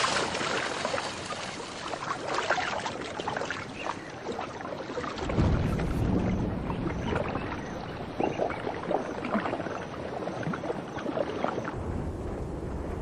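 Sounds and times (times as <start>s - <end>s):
dull steady water rush: 0.0s - 13.0s
water splashing and churning: 0.0s - 13.0s.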